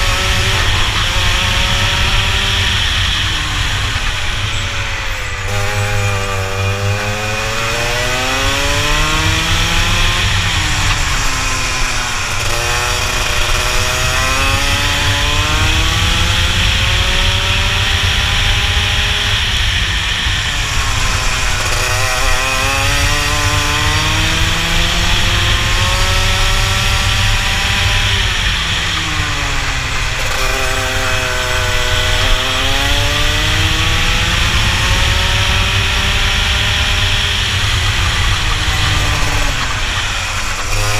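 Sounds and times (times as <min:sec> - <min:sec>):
kart engine racing: 0:00.0 - 0:40.9
wind buffeting microphone: 0:07.9 - 0:40.9.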